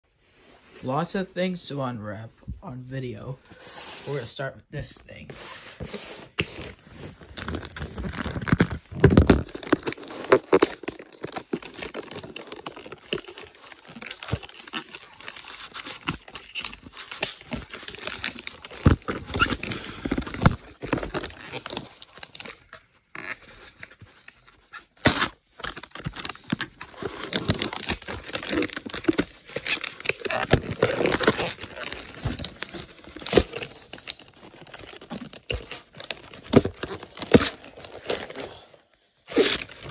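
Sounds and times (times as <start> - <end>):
envelope tearing and rustling: 5.1 - 39.9.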